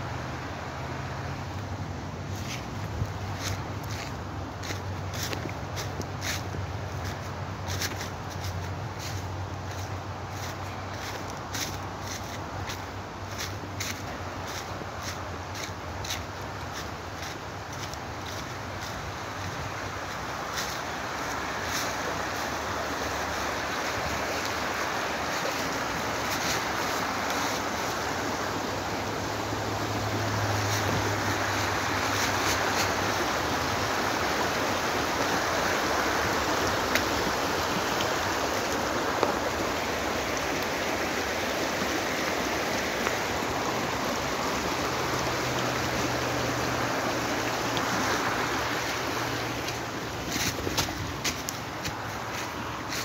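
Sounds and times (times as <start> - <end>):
fast-flowing river rushing: 0.0 - 53.0.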